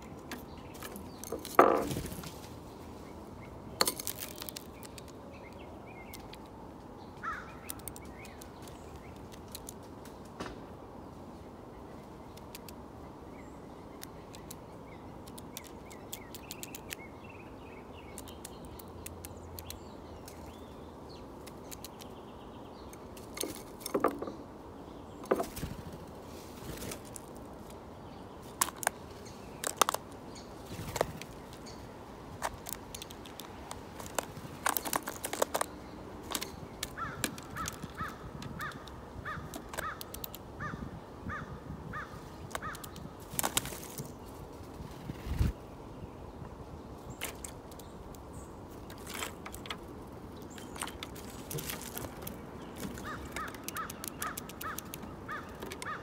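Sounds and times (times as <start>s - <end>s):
sparrows chirping: 0.0s - 10.0s, 10.8s - 56.0s
steady background hiss: 0.0s - 56.0s.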